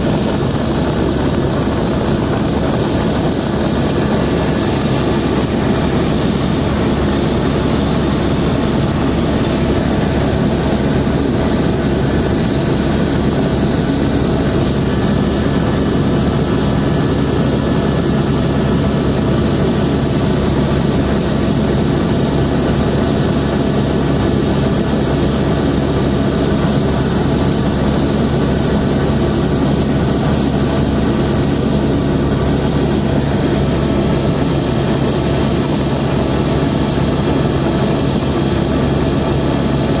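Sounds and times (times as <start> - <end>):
helicopter rotor drone: 0.0 - 40.0.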